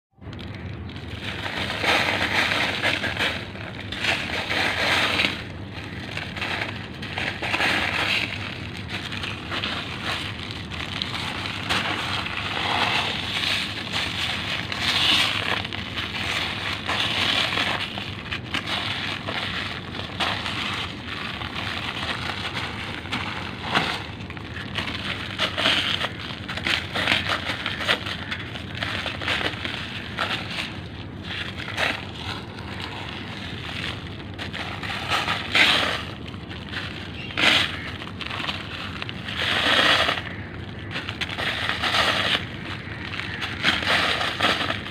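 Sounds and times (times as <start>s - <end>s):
gritty crunching of crumbling cement: 0.2s - 44.9s.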